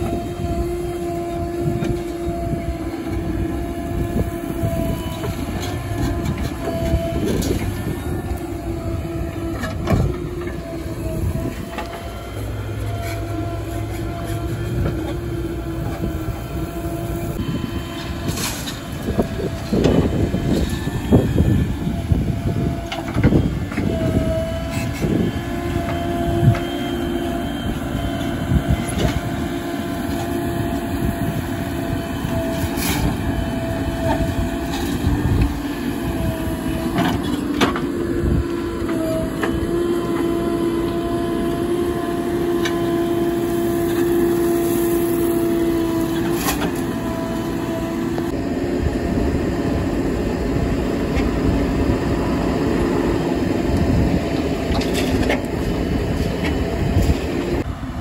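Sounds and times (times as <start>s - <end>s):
diesel engine running under load: 0.0s - 58.0s
steady whine: 0.0s - 58.0s.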